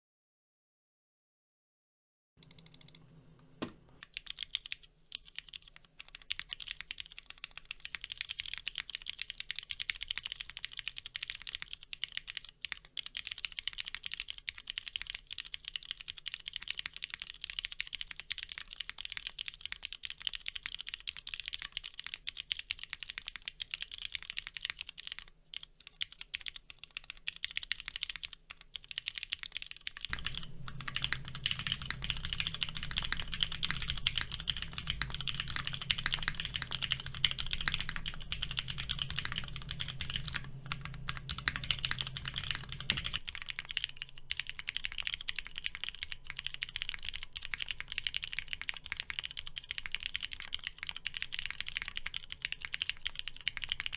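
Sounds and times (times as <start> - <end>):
mechanical keyboard typing: 2.4 - 53.9.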